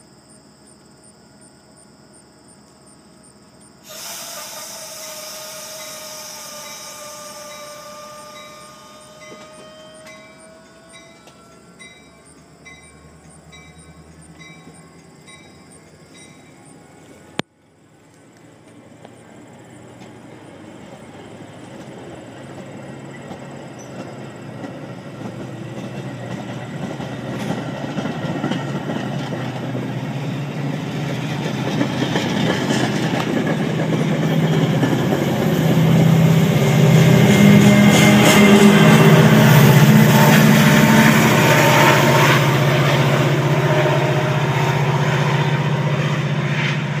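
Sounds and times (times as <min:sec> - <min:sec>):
diesel locomotive engine: 0:00.0 - 0:47.0
train wheels clattering: 0:03.9 - 0:16.6, 0:20.9 - 0:47.0.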